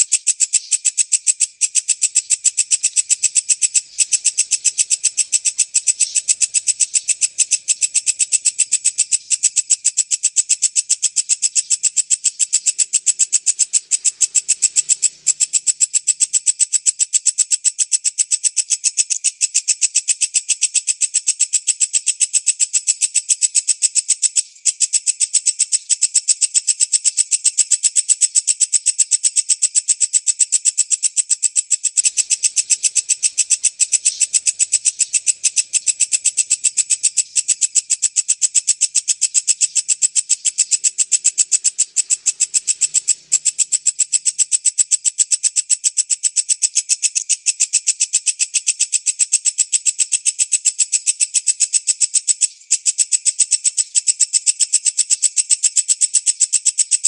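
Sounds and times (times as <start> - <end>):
lovebird chattering trill: 0.0 - 57.0.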